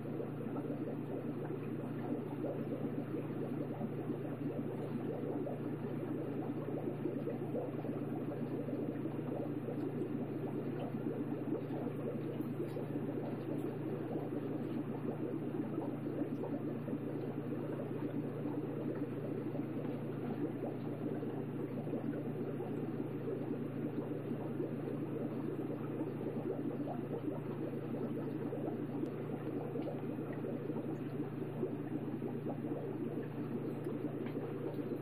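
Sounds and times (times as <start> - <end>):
aquarium water bubbling: 0.0 - 35.0
low even hum: 0.0 - 35.0.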